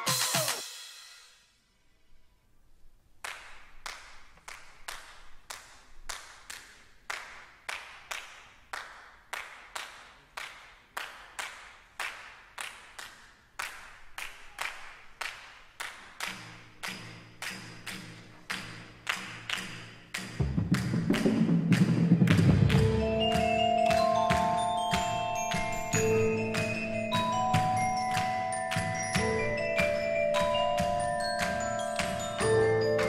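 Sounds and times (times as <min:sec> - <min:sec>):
hands clapping in unison: 0:03.2 - 0:33.0.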